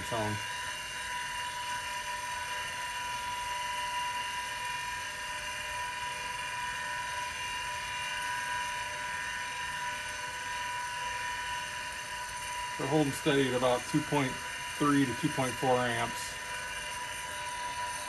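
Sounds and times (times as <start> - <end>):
hard drive spindle whine: 0.0 - 18.0.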